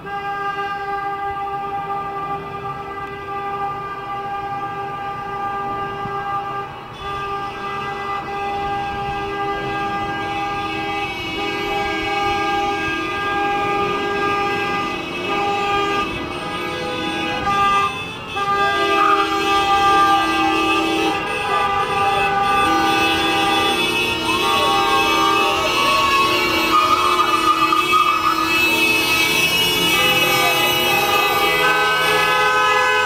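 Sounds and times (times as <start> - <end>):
car horns honking: 0.0 - 33.0
passing cars: 0.0 - 33.0.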